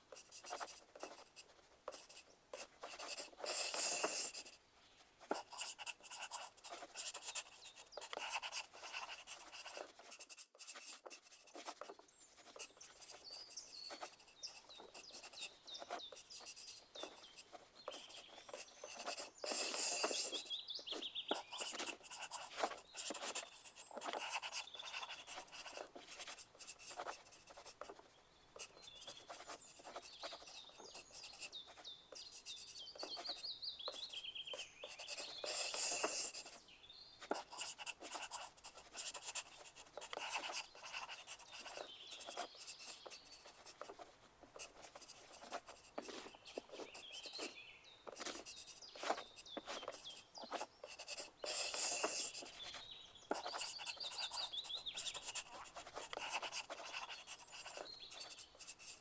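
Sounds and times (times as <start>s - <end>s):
pencils scratching on paper: 0.0s - 4.6s, 5.2s - 36.6s, 37.2s - 59.0s.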